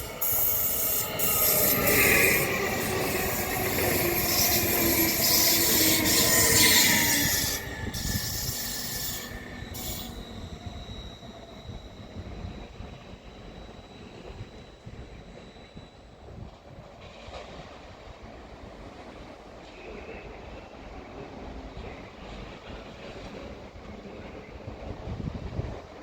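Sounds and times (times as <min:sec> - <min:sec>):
train wheels squealing: 0:00.0 - 0:24.6
train running on rails: 0:00.0 - 0:26.0.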